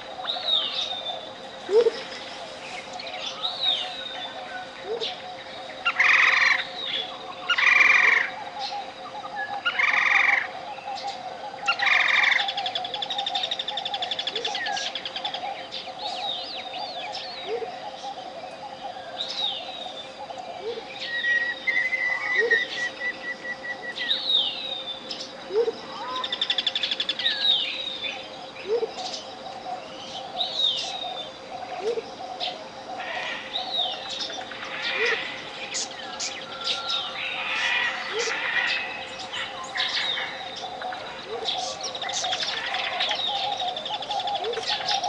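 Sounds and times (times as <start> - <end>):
faintly pulsing hum: 0.0 - 45.0
jungle birds chirping and trilling: 0.0 - 45.0
steady pure tone: 0.0 - 45.0.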